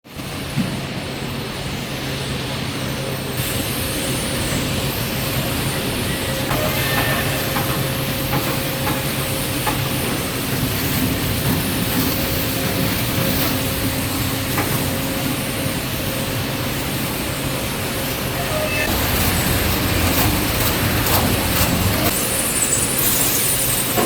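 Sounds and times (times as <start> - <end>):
machinery droning hum: 0.4 - 24.0.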